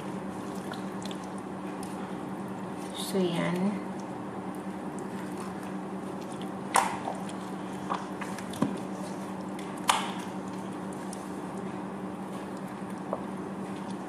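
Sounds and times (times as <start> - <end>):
soft wet squishing: 0.0 - 14.0
steady hum: 0.0 - 14.0.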